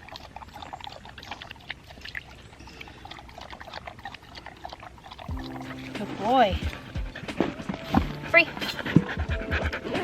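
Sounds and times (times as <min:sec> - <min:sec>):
dog lapping water: 0:00.0 - 0:10.0.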